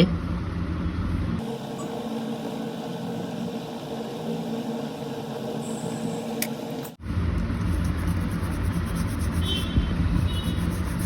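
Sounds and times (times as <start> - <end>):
deeper steady hum: 0.0 - 11.0
low mechanical hum: 0.0 - 11.0.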